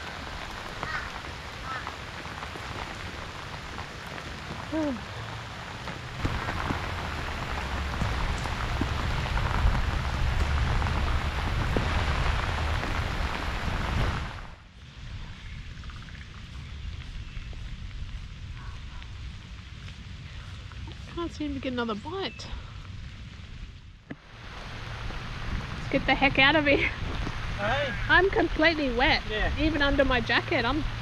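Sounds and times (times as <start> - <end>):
heavy rain falling: 0.0 - 31.0
low rumble: 2.4 - 31.0.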